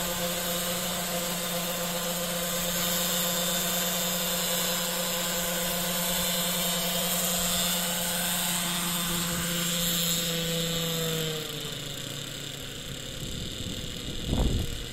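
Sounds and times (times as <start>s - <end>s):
model helicopter whine: 0.0s - 14.9s.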